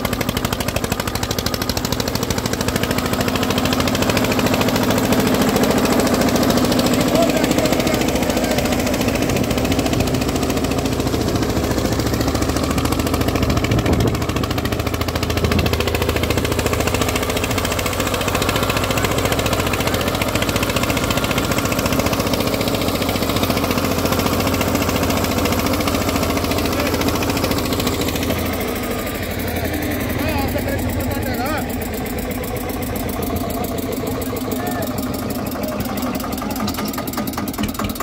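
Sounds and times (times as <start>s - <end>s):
diesel tractor engine under load: 0.0s - 38.0s.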